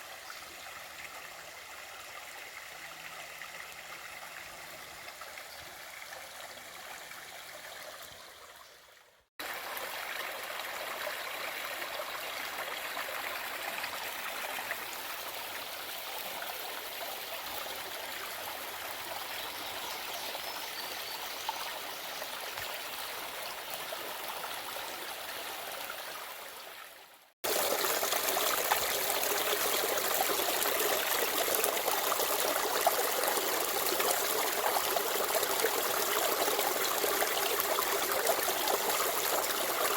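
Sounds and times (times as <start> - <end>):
creek water over rocks: 0.0 - 39.9.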